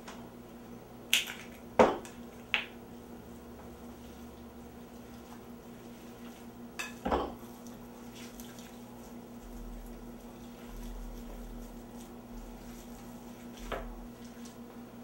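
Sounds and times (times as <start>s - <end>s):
steady hum: 0.0s - 15.0s
soft meat mixing sounds: 0.4s - 15.0s.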